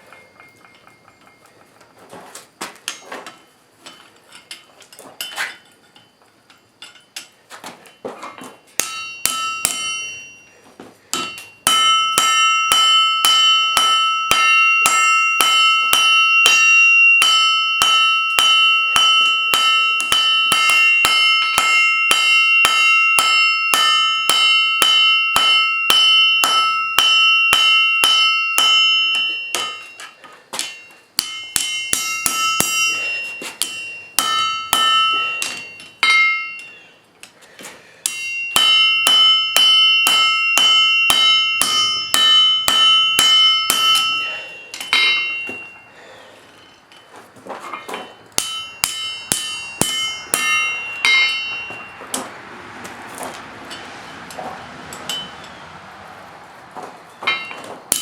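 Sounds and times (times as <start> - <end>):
hammer striking steel on anvil: 0.0 - 1.8, 2.9 - 37.4, 38.0 - 46.0, 47.7 - 55.6, 57.2 - 58.0.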